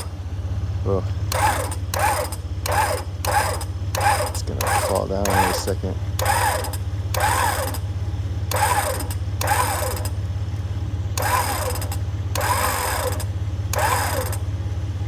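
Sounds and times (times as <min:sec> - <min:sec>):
electric winch motor whirring: 0:00.0 - 0:00.2, 0:01.2 - 0:14.7
idling engine hum: 0:00.0 - 0:15.0.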